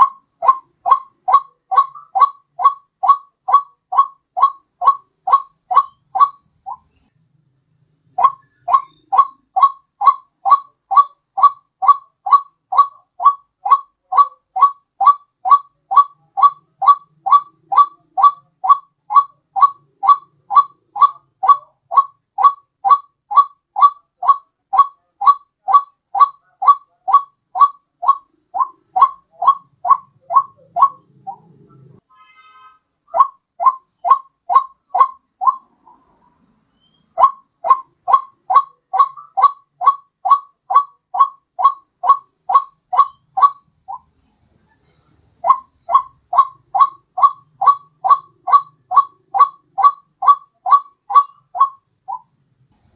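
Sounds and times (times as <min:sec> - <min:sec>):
waterhen calls: 0:00.0 - 0:07.1, 0:08.1 - 0:32.0, 0:33.1 - 0:44.3, 0:45.4 - 0:52.3.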